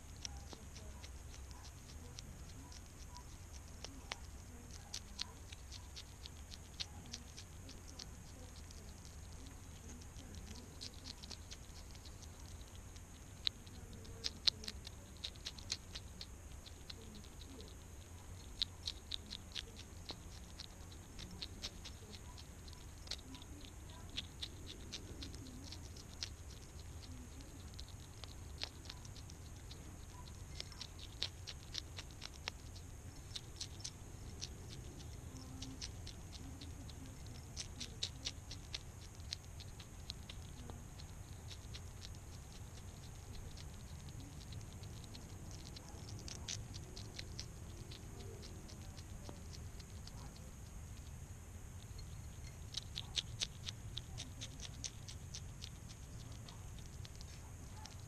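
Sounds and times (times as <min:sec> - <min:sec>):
hedgehog chewing clicks: 0:00.0 - 0:58.0
steady low hum: 0:00.0 - 0:58.0.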